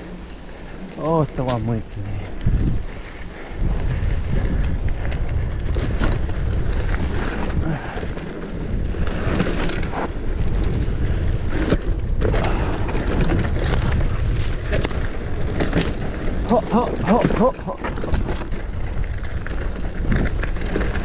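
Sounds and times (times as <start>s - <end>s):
bike rattling over bumps: 0.0s - 21.0s
tyres on loose dirt: 0.0s - 21.0s
wind buffeting microphone: 0.0s - 21.0s.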